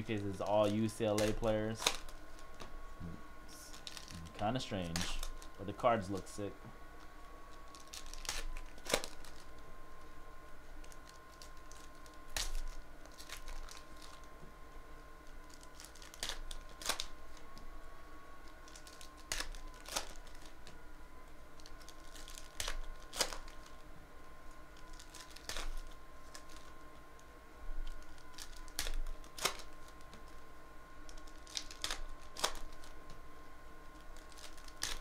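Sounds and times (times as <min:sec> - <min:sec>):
foil wrappers tearing and crinkling: 0:00.0 - 0:02.7, 0:03.5 - 0:06.5, 0:07.5 - 0:10.0, 0:10.8 - 0:14.3, 0:15.2 - 0:17.6, 0:18.4 - 0:20.8, 0:21.5 - 0:27.0, 0:27.8 - 0:33.2, 0:33.8 - 0:35.0.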